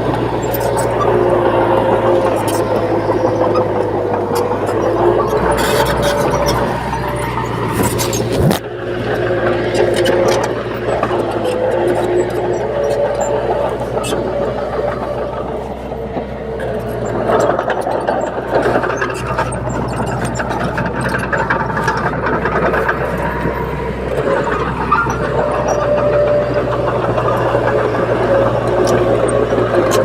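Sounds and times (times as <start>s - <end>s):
bulldozer diesel engine running: 0.0s - 30.0s
metal clanks and rattles: 0.0s - 30.0s.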